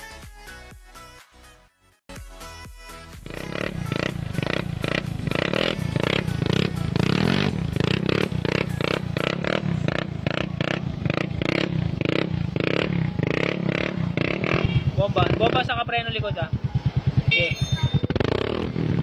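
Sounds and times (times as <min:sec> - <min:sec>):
scooter engine revving: 0:03.2 - 0:19.0.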